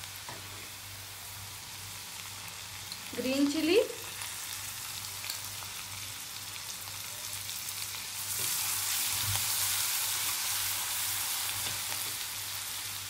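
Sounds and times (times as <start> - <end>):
paste sizzling in hot oil: 0.1 - 13.0.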